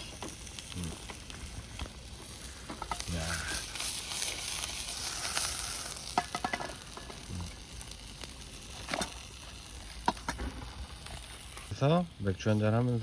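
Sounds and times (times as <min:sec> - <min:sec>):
rice sizzling in a pan: 0:00.0 - 0:13.0.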